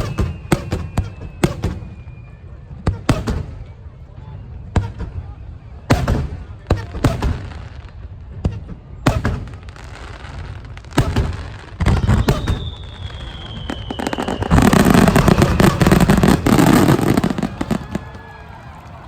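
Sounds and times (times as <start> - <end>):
fireworks bangs: 0.0 - 3.9, 4.6 - 19.0
fireworks volley crackling: 0.0 - 19.0.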